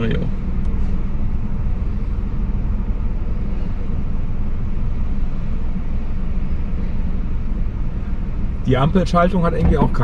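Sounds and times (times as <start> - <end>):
car engine rumble: 0.0 - 10.0
road noise inside car: 0.0 - 10.0.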